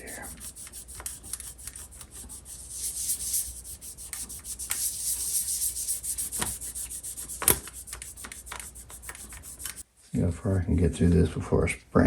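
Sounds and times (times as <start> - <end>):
hand scratching metal pins: 0.0 - 9.8.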